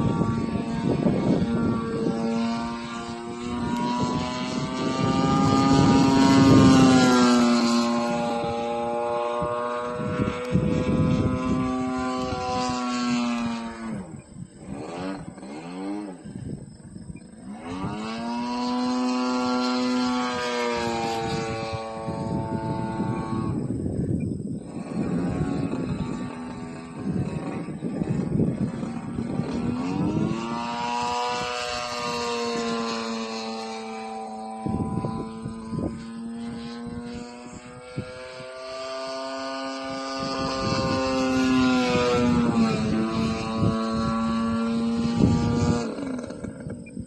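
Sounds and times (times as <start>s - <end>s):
model plane engine in flight: 0.0s - 47.0s.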